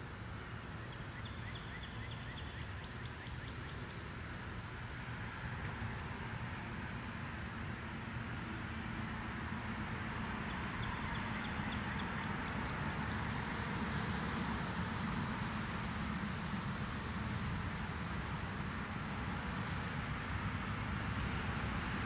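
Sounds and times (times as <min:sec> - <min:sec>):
low rumble of distant traffic: 0:00.0 - 0:22.0.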